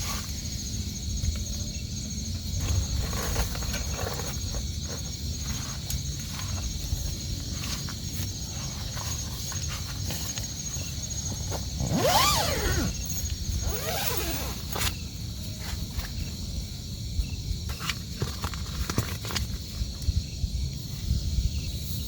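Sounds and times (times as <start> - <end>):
high insect drone: 0.1 - 17.9.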